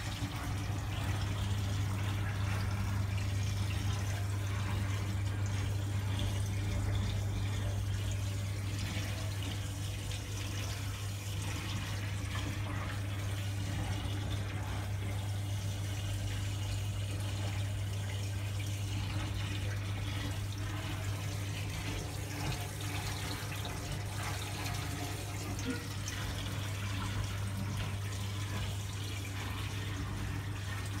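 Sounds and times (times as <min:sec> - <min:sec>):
aquarium water running: 0:00.0 - 0:31.0
pump humming: 0:00.0 - 0:31.0.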